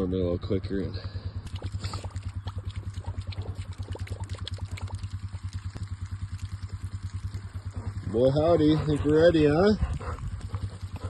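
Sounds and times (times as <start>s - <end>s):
engine running: 0.0s - 11.0s
water pouring from a hose: 1.3s - 11.0s.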